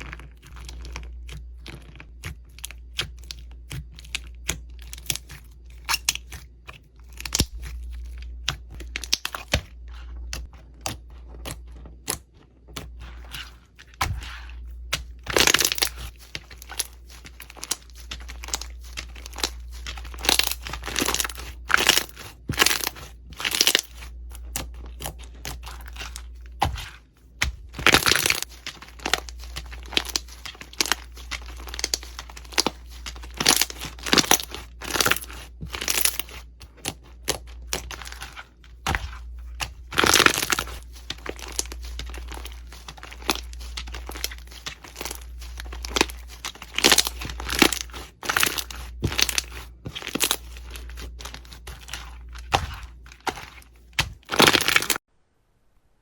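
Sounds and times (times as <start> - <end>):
slime crackling and crunching: 0.0 - 55.0.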